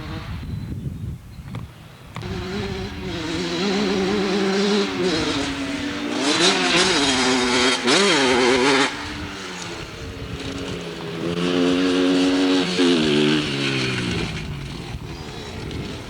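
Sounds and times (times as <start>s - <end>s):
dirt bike engine revving: 2.2s - 16.0s.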